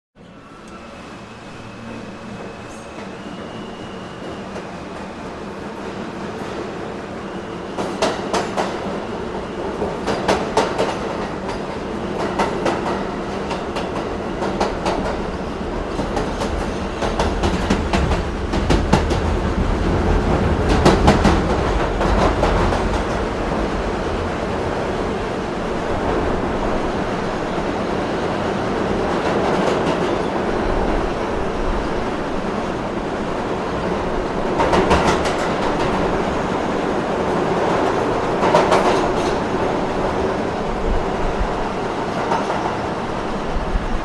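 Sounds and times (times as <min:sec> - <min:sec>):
subway train rumble: 0:00.2 - 0:44.0.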